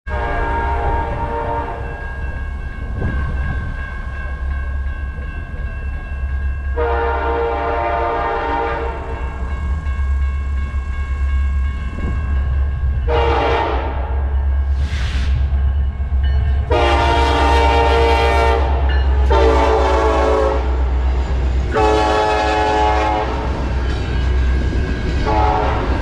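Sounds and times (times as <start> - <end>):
diesel locomotive rumble and whine: 0.1 - 26.0.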